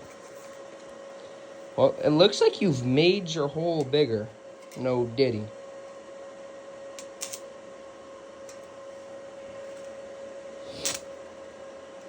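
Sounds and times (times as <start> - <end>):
welder electrical hum: 0.0 - 12.0.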